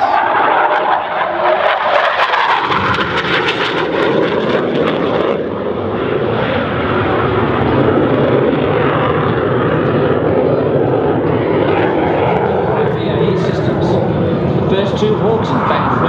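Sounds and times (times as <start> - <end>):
jet engine roaring: 0.0 - 16.0.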